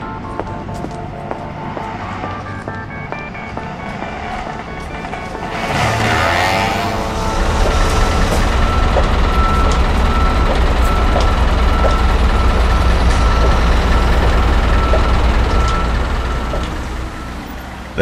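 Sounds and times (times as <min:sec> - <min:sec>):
pedestrian crossing beeper: 0:00.0 - 0:18.0
traffic idling rumble: 0:00.0 - 0:18.0.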